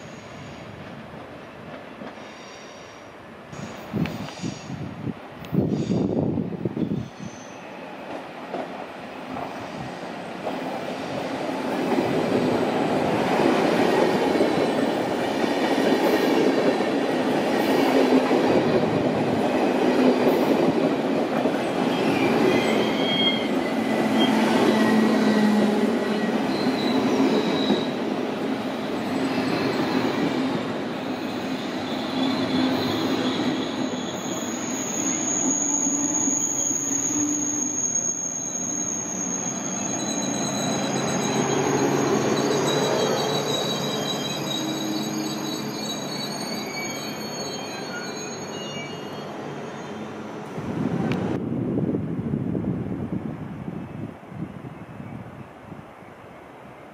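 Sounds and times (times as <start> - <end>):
wheels squealing on rail: 0.0 - 0.9, 1.6 - 4.9, 5.6 - 50.3.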